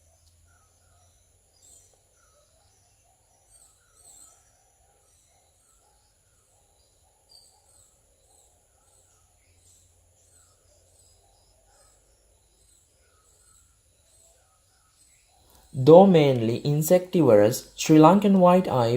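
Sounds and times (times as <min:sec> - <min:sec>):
small birds chirping: 0:00.0 - 0:16.7.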